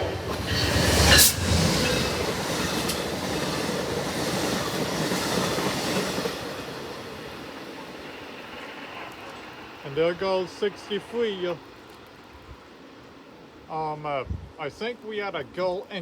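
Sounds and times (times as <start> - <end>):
passenger train passing at speed: 0.0 - 14.0.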